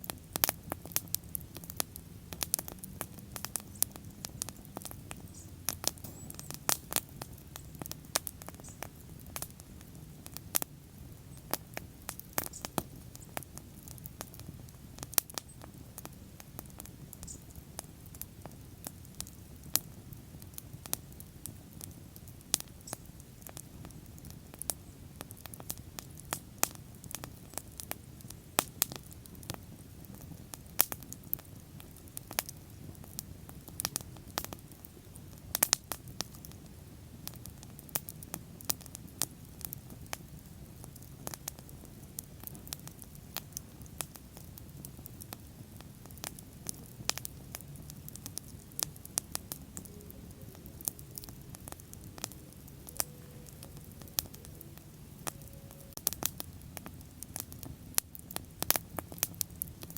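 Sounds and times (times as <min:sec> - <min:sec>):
low rumble of flames: 0:00.0 - 0:59.9.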